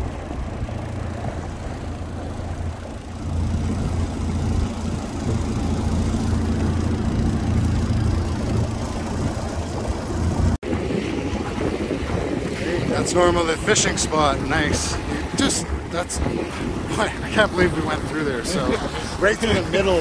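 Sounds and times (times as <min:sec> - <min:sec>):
outboard motor running: 0:00.0 - 0:20.0
water noise around hull: 0:00.0 - 0:20.0.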